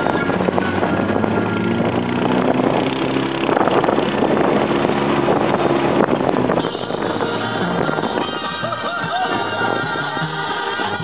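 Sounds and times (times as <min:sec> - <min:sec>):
atv engine droning: 0:00.0 - 0:11.0
wind noise on microphone: 0:00.0 - 0:11.0.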